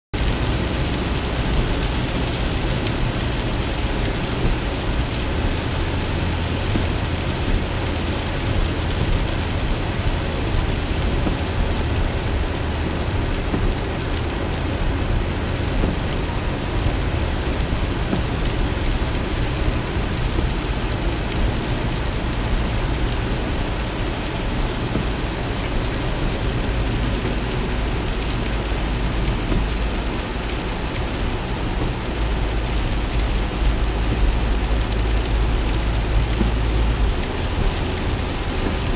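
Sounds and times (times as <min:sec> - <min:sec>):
car road and engine rumble: 0:00.1 - 0:38.9
rain hitting windshield and roof: 0:00.1 - 0:38.9.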